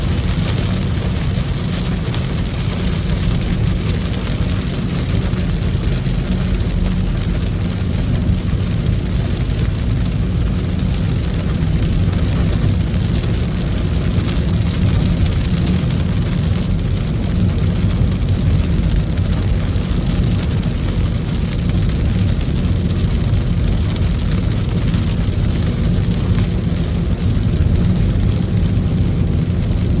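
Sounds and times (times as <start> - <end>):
car driving on road: 0.0 - 30.0.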